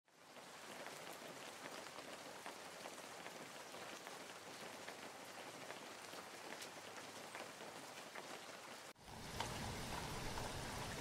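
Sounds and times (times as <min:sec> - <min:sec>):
steady rain patter: 0:00.1 - 0:11.0.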